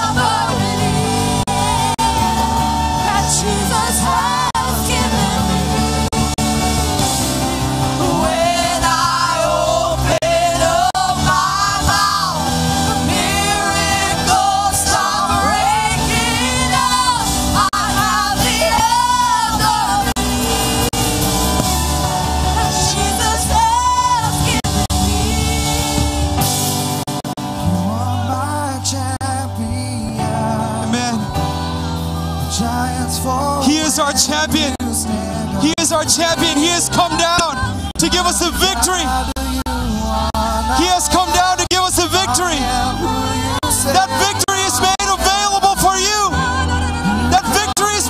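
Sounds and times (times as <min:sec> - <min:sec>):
bass line: 0:00.0 - 0:48.0
people singing: 0:00.0 - 0:48.0
worship band playing: 0:00.0 - 0:48.0.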